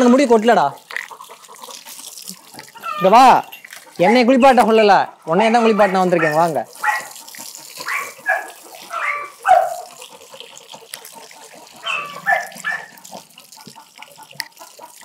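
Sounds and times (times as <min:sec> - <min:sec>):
water spraying from hose: 0:00.0 - 0:15.0.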